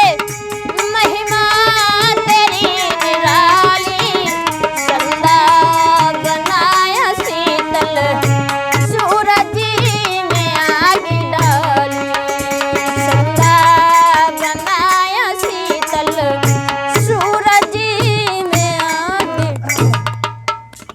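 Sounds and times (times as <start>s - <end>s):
woman singing: 0.0s - 20.0s
tabla strokes: 0.0s - 20.9s.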